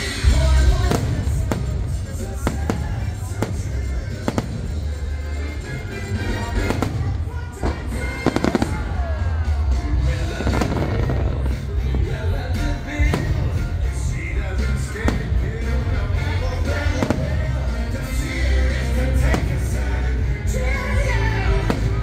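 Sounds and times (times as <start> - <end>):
fireworks bursting with sharp bangs: 0.0 - 22.0
heavy low rumble: 0.0 - 22.0
music over loudspeakers: 0.0 - 22.0.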